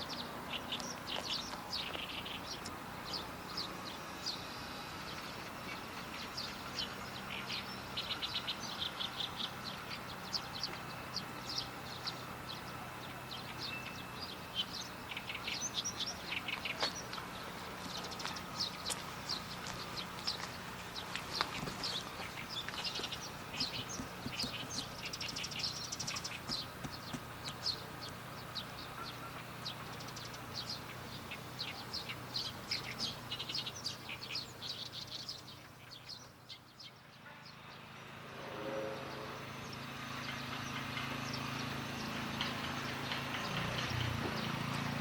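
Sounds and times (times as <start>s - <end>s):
small birds chirping: 0.0s - 38.2s, 39.0s - 45.0s
low steady hum: 0.0s - 43.3s.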